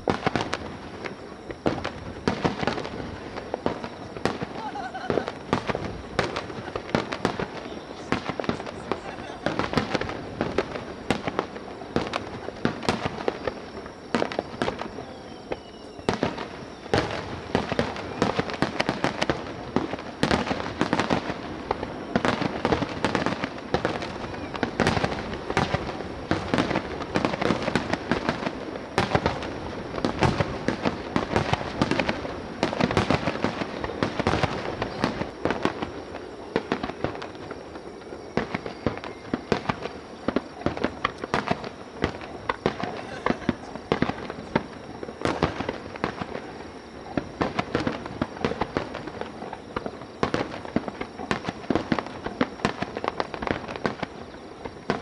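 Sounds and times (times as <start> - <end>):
fireworks barrage: 0.0 - 55.0.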